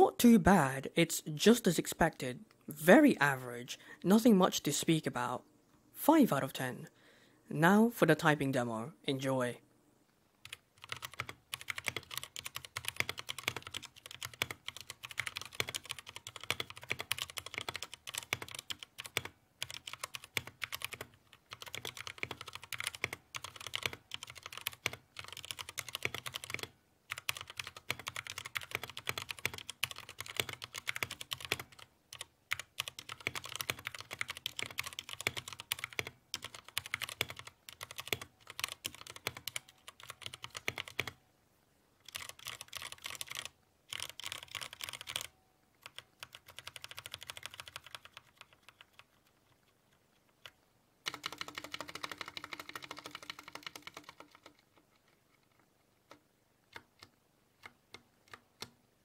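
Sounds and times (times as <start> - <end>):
mechanical keyboard typing: 10.4 - 41.2, 42.0 - 58.8.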